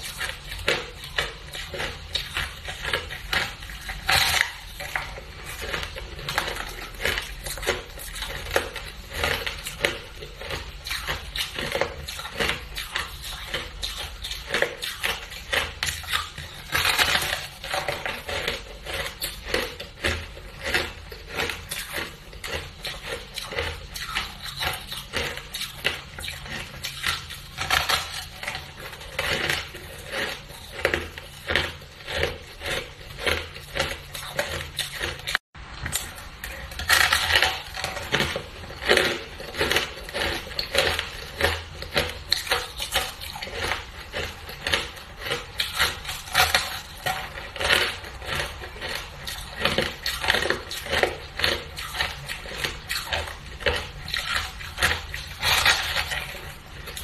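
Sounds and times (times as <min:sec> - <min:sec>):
person crunching ice: 0:00.0 - 0:57.0.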